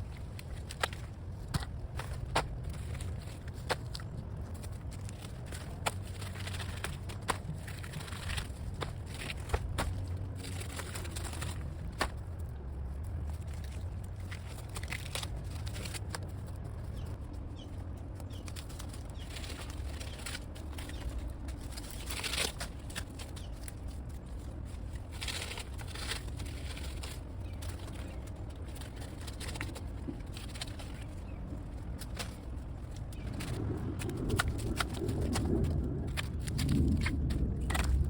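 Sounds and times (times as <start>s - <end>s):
leaves rustling and crackling: 0.0s - 38.0s
low rumble: 0.0s - 38.0s.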